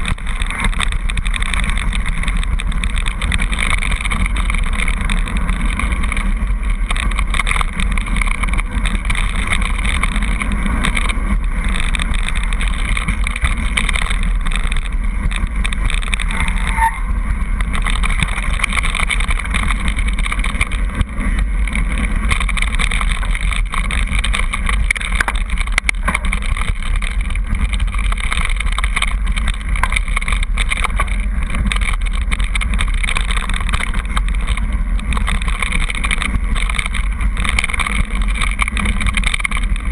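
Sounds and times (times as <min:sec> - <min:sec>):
bike rattling: 0:00.0 - 0:39.9
tyres crunching over gravel: 0:00.0 - 0:39.9
wind on microphone: 0:00.0 - 0:39.9.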